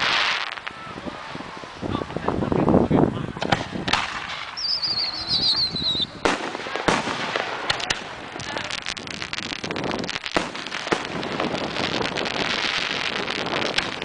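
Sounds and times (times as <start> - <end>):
firework crackle: 0.0 - 14.0
fireworks banging and popping: 0.0 - 14.0.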